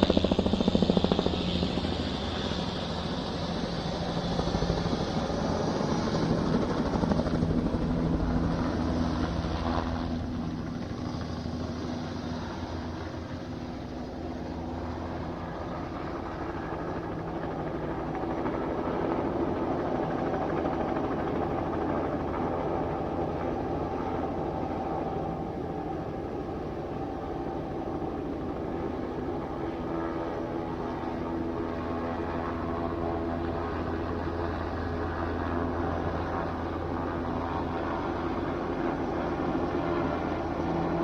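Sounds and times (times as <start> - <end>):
helicopter rotor chop: 0.0 - 41.0.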